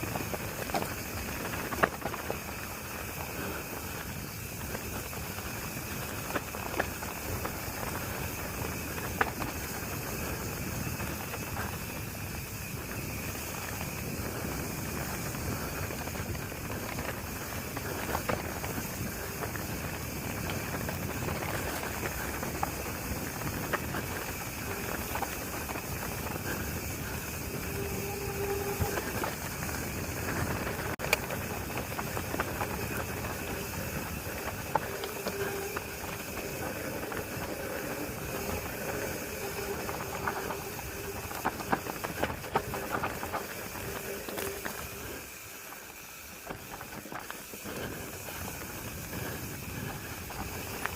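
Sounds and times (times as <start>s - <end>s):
bike clicks and rattles: 0.0s - 50.9s
tyre and wind rush: 0.0s - 50.9s.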